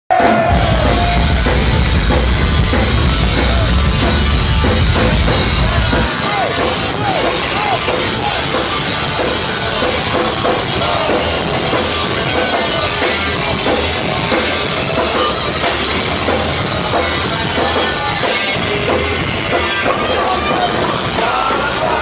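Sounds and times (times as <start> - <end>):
pounding drum kit: 0.1 - 22.0
punk rock band playing live: 0.1 - 22.0.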